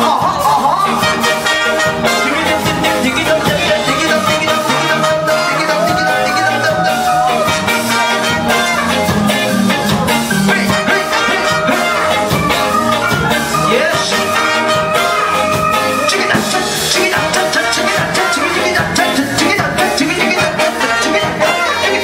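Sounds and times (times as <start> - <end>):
ska band playing live: 0.0 - 22.0
trumpets and trombone: 0.1 - 22.0.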